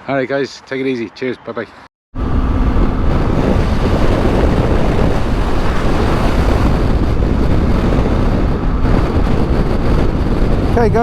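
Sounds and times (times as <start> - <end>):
road noise: 0.0 - 11.0
wind rush over microphone: 2.2 - 11.0.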